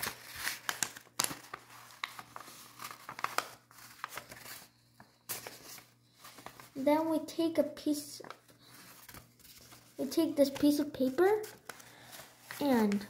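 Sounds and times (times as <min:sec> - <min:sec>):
paper crinkling and rustling: 0:00.0 - 0:06.8, 0:08.2 - 0:13.0.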